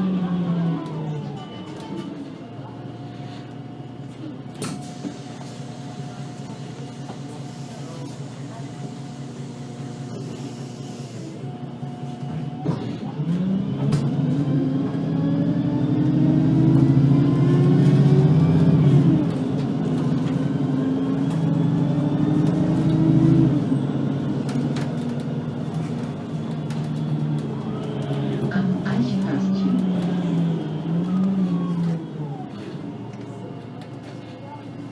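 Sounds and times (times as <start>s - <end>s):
bus engine accelerating: 0.0s - 34.9s.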